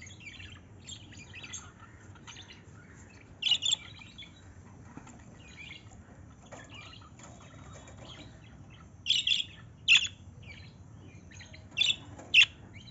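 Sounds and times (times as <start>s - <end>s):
small bird chirping: 0.0s - 12.9s.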